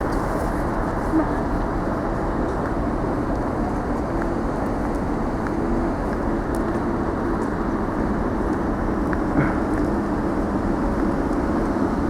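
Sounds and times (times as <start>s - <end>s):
diesel locomotive engine idling: 0.0s - 12.0s.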